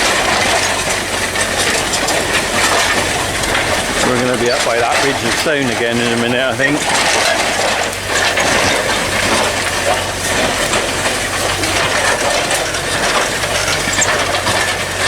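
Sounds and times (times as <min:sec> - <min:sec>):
plough crunching stony soil: 0:00.0 - 0:15.0
tractor engine humming: 0:00.0 - 0:15.0.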